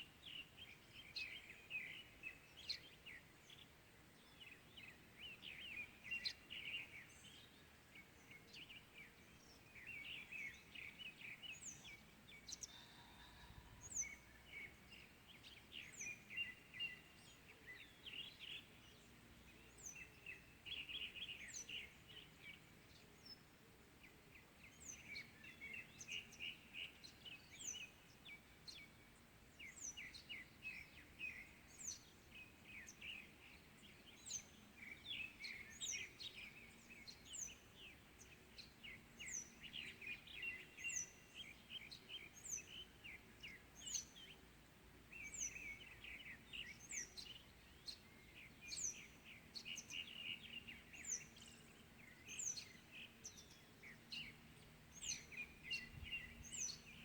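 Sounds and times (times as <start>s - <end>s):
faint steady background noise: 0.0s - 57.0s.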